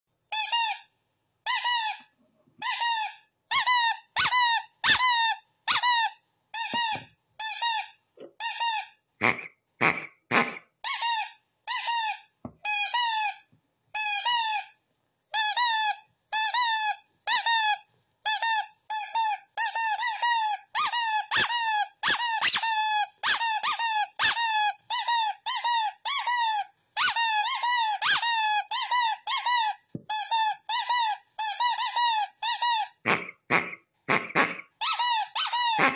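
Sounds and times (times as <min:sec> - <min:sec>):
rubber duck squeaking: 0:01.5 - 0:14.8, 0:15.4 - 0:35.9.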